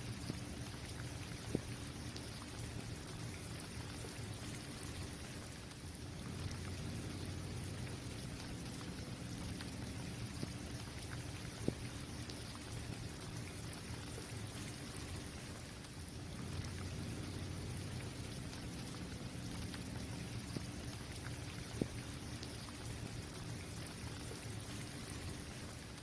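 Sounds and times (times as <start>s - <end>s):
rain on hard surface: 0.0s - 26.0s.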